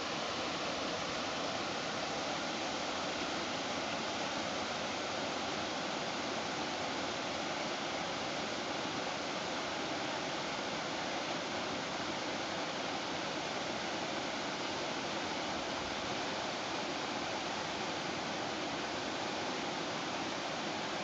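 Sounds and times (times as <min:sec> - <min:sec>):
creek water rushing over rocks: 0:00.0 - 0:21.0.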